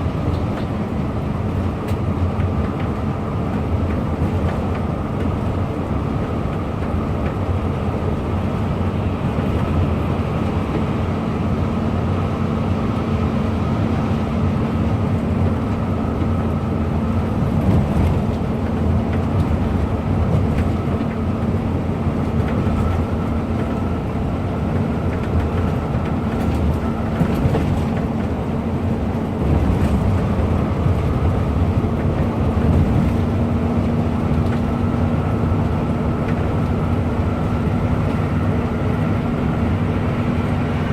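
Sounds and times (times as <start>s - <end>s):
bus engine running: 0.0s - 40.9s
road noise: 0.0s - 40.9s.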